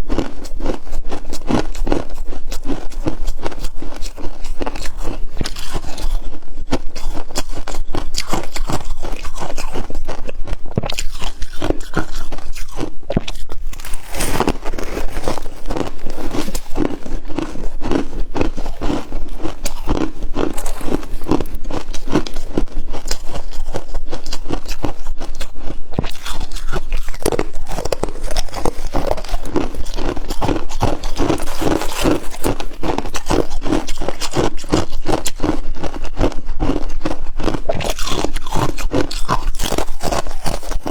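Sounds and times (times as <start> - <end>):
chewing crunchy frost: 0.0 - 40.9.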